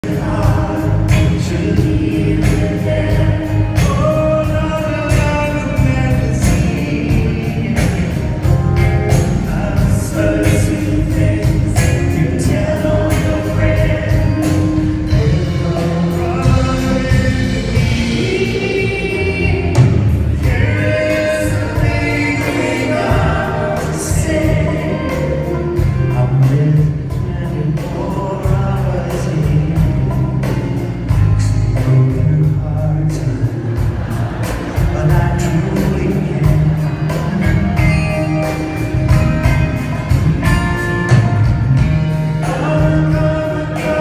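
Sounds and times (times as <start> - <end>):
acoustic guitar: 0.0 - 44.0
man singing lead: 0.0 - 44.0
steady beat: 0.0 - 44.0
voices singing along: 0.0 - 44.0.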